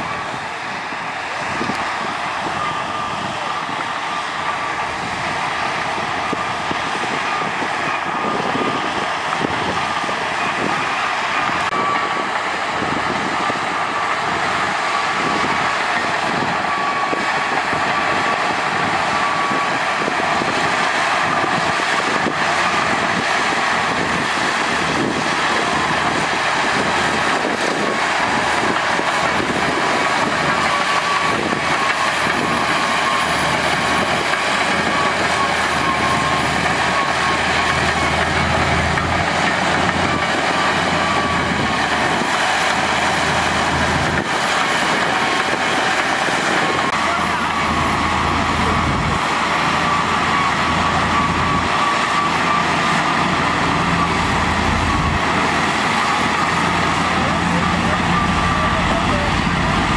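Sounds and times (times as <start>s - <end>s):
bulldozer diesel engine running: 0.0s - 59.9s
high whine: 0.0s - 59.9s.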